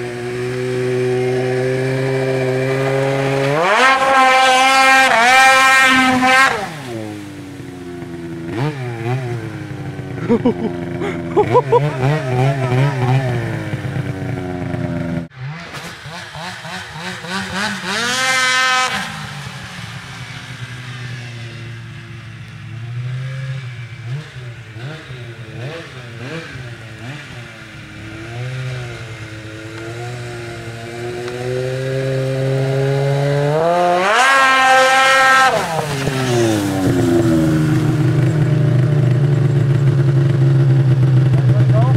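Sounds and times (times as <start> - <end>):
snowmobile engine revving: 0.0 - 41.9.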